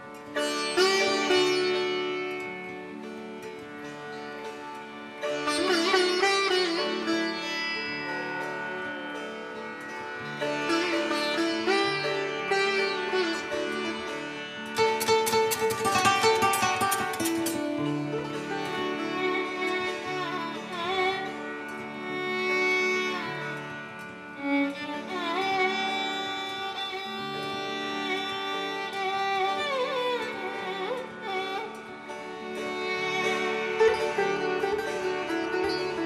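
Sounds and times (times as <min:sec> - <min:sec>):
violin melody with pitch slides: 0:00.0 - 0:36.0.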